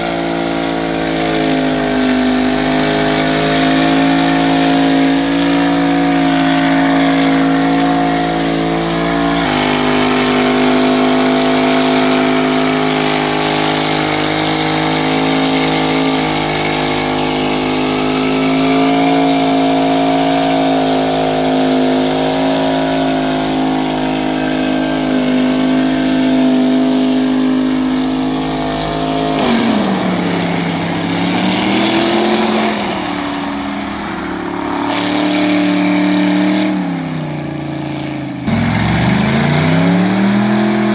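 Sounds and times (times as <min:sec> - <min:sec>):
car engine revving high: 0:00.0 - 0:40.9.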